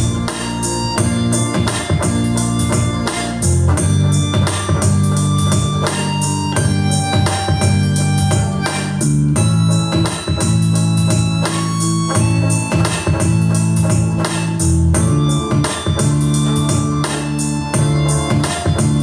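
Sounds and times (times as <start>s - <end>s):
bass: 0.0s - 19.0s
electronic organ chords: 0.0s - 19.0s.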